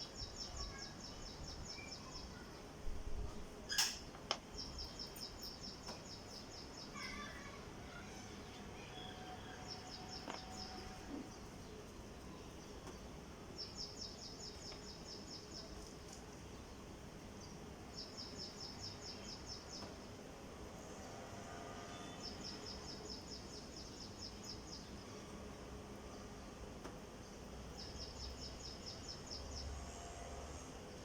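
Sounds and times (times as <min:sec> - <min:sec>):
faint background noise: 0:00.0 - 0:31.0.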